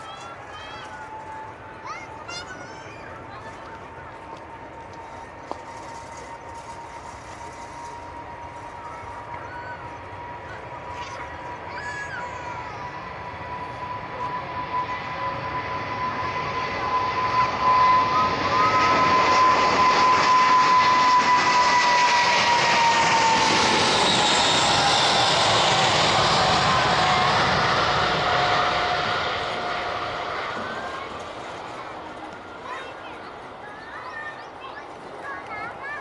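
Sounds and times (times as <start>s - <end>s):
airliner passing overhead: 0.0s - 36.0s.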